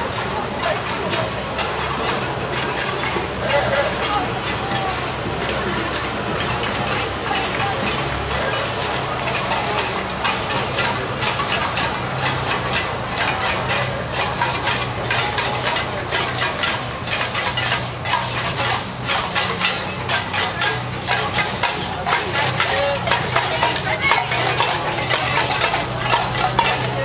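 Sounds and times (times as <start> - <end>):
rapid clicking and clattering: 0.0 - 27.0.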